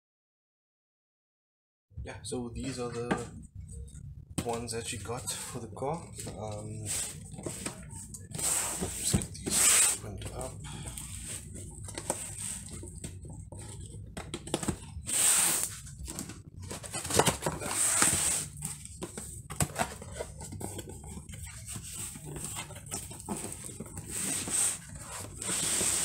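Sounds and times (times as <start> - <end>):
cardboard scraping and rustling: 4.5 - 26.0.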